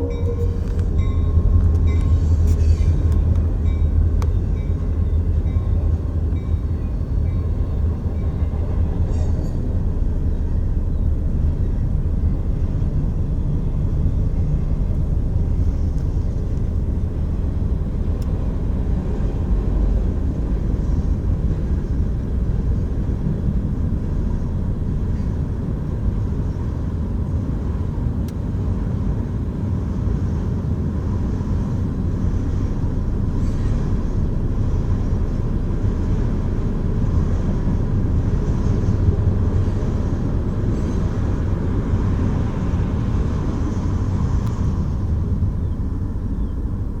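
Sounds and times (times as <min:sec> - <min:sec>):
freight train rolling past: 0:00.0 - 0:47.0.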